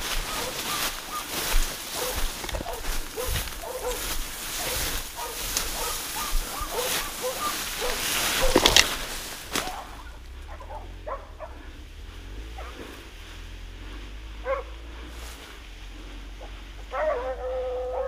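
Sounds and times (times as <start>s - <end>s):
dogs barking and yelping: 0.0s - 13.1s, 13.7s - 15.2s, 15.8s - 18.0s.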